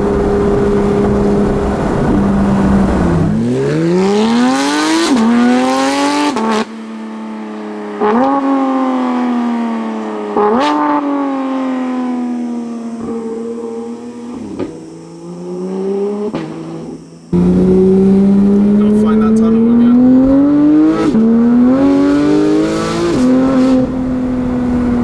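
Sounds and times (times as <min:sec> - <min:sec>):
exhaust crack: 0:00.0 - 0:05.8, 0:09.8 - 0:25.0
sports car engine revving: 0:00.0 - 0:25.0.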